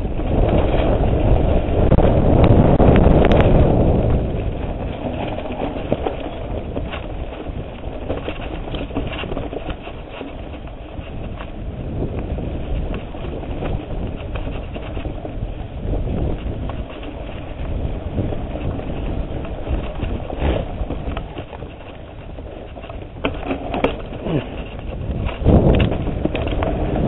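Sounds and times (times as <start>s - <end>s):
bike tyres rumbling on dirt trail: 0.0s - 27.0s.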